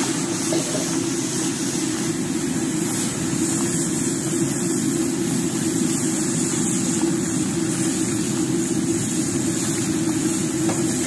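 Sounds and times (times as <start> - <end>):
rice sizzling in a wok: 0.0 - 11.0
steam hissing: 0.0 - 11.0
stove burner roaring: 0.0 - 11.0.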